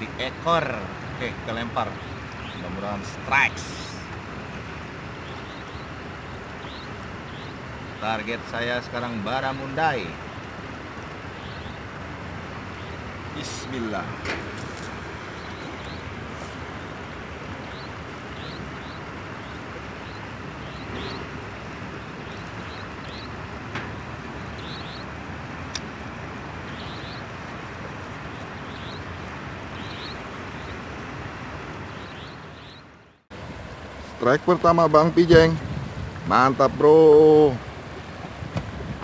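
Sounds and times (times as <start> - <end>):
steady rushing outdoor noise: 0.0 - 39.0.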